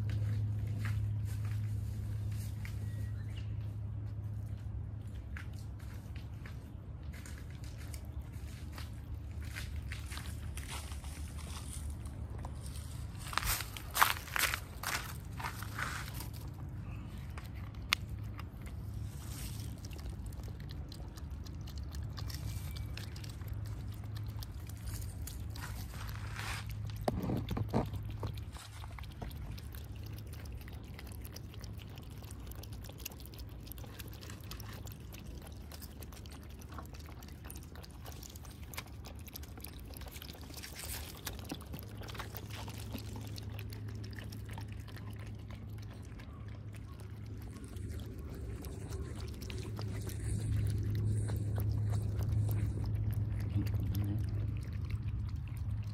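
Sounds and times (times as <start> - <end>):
cats lapping and chewing: 0.0 - 55.9
steady low hum: 0.0 - 55.9.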